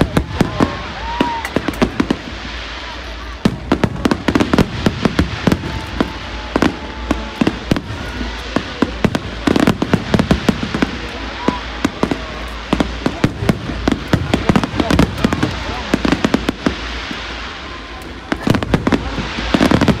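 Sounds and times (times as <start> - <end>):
fireworks bangs: 0.0 - 20.0
steady background hiss: 0.0 - 20.0.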